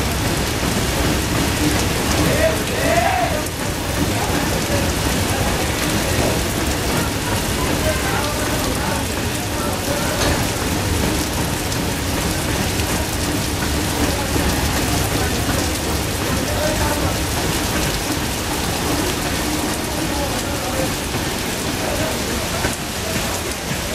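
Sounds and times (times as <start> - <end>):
freight wagons rolling on track: 0.0 - 23.9
heavy rain: 0.0 - 23.9
waterfall spray: 0.0 - 23.9.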